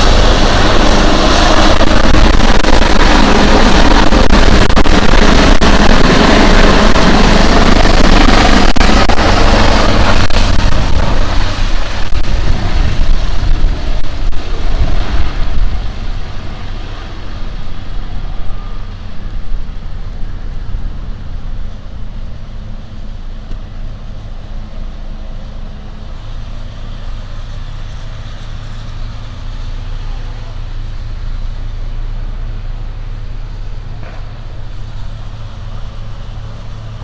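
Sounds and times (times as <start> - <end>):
helicopter rotor and turbine: 0.0 - 37.0
low engine rumble: 0.0 - 37.0.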